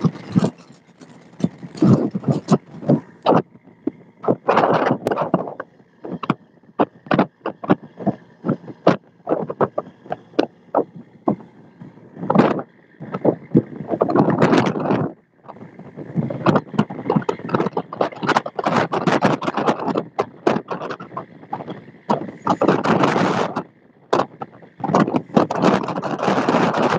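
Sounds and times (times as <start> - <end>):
water slapping boat hull: 0.0 - 11.5, 12.2 - 26.9.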